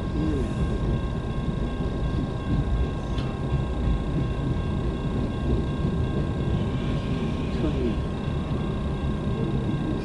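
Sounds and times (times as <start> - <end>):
freight train rumbling past: 0.0 - 10.0.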